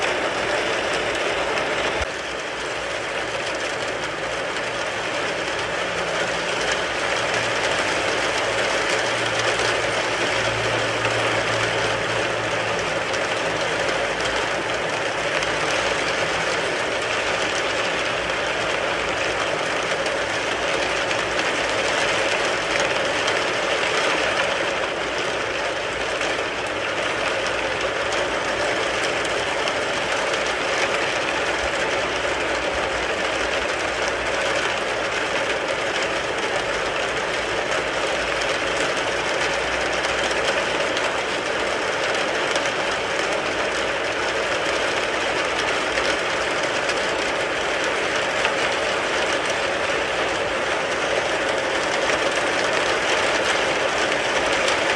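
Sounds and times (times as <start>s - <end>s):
rain on a car: 0.0s - 54.9s.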